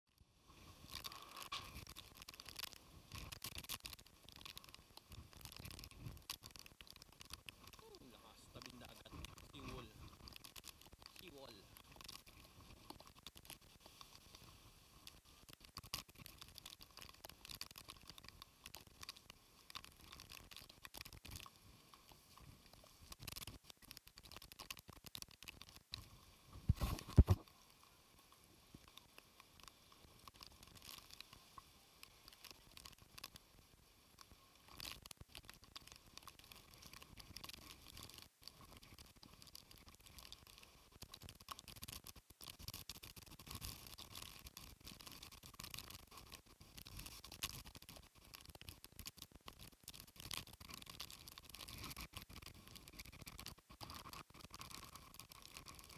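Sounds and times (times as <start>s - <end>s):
rain patter on microphone: 0.1s - 55.9s.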